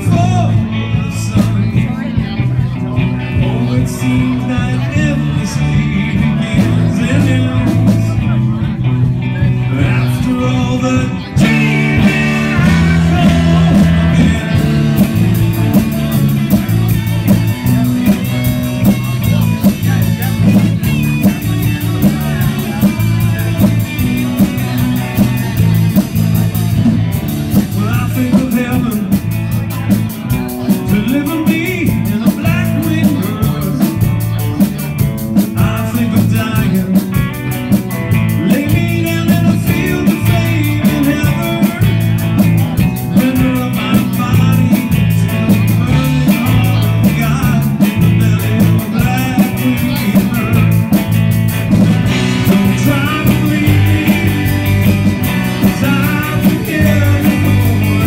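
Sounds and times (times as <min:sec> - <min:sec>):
bass guitar: 0:00.0 - 0:58.0
drum kit with cymbal beats: 0:00.0 - 0:58.0
electric guitars: 0:00.0 - 0:58.0
man singing into a microphone: 0:00.0 - 0:58.0.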